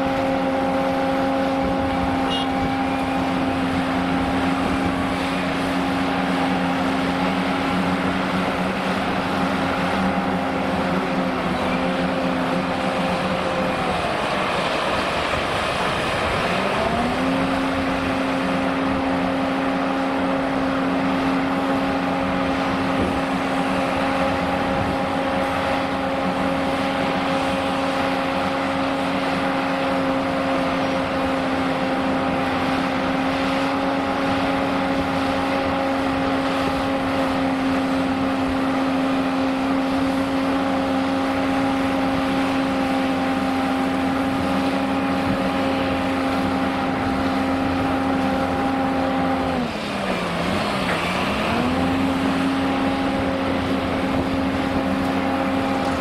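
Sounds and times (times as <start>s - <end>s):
diesel engine and hydraulics running: 0.0s - 56.0s.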